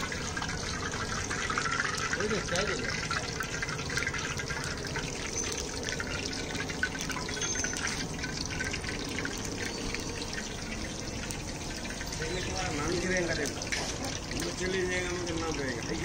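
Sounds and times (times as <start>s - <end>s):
chillies sizzling in hot oil: 0.0s - 16.0s.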